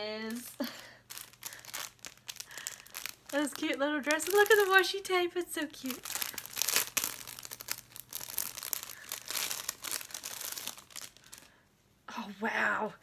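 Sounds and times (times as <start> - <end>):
plastic bag crinkling: 0.3 - 11.6.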